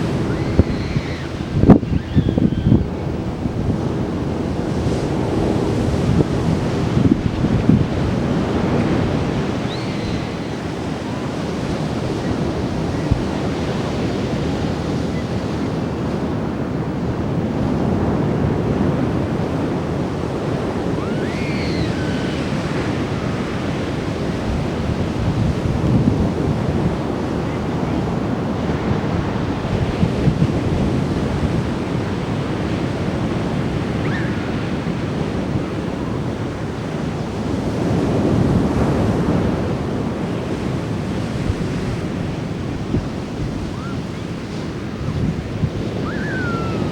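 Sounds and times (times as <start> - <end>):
surf breaking on beach: 0.0 - 46.9
wind buffeting microphone: 0.0 - 46.9.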